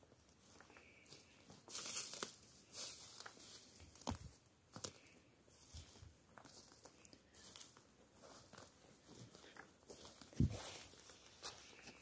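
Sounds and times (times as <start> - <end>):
footsteps on twigs and moss: 0.0 - 12.0.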